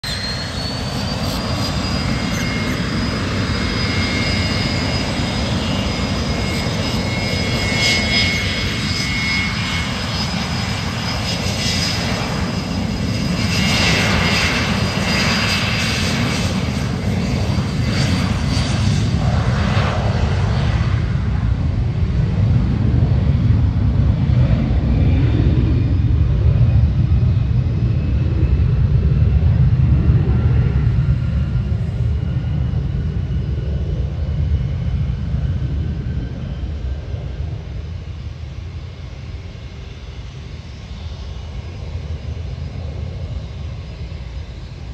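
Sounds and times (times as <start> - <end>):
jet engine rumble: 0.0 - 44.9
jet turbine whine: 0.0 - 44.9.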